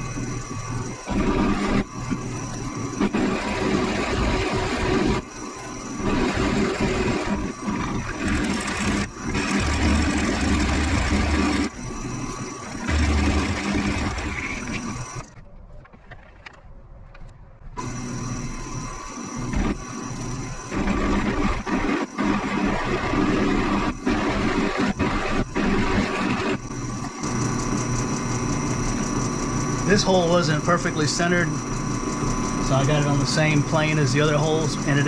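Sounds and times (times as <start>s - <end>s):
drill bit cutting with chatter: 0.0s - 15.3s, 17.8s - 35.0s
drill press motor humming: 0.0s - 15.4s, 17.8s - 35.0s.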